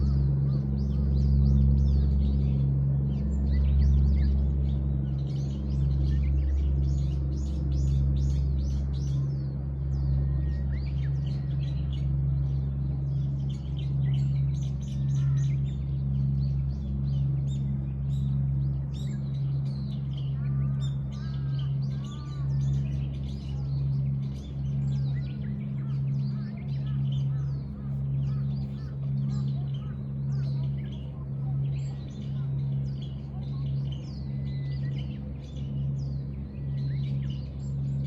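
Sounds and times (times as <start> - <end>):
lower arched bird calls: 0.0 - 38.0
songbirds chirping chorus: 0.0 - 38.0
steady low hum: 0.0 - 38.0.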